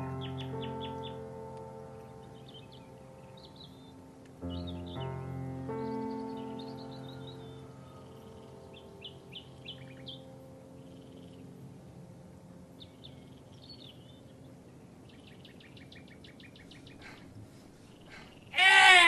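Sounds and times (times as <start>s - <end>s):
soft music: 0.0s - 17.0s
birds chirping and trilling: 0.0s - 19.0s.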